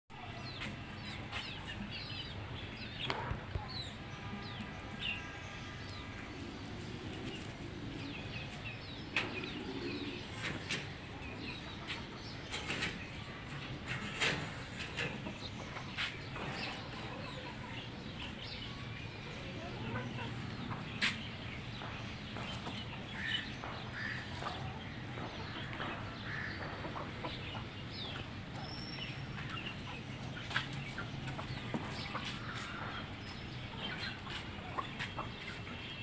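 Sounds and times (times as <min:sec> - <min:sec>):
birds chirping: 0:00.2 - 0:36.0.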